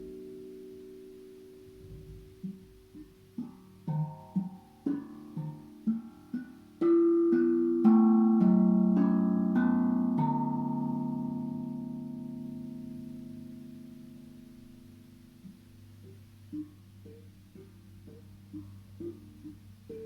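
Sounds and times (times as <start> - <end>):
steel tongue drum notes: 0.0 - 20.0.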